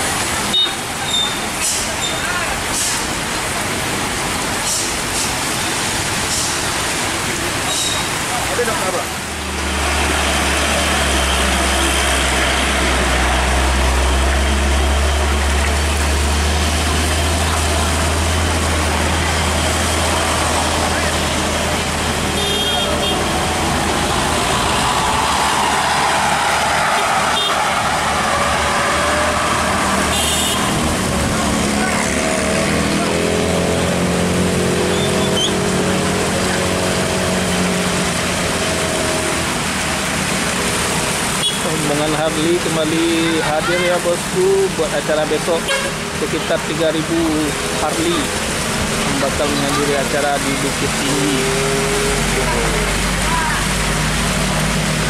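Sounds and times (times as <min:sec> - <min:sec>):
rain and tyres on wet road: 0:00.0 - 0:55.0
diesel truck engine humming: 0:08.1 - 0:55.0.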